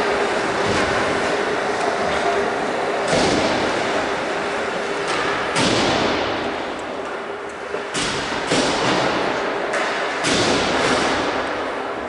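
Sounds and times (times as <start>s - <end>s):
steady noisy rumble: 0.0s - 12.0s.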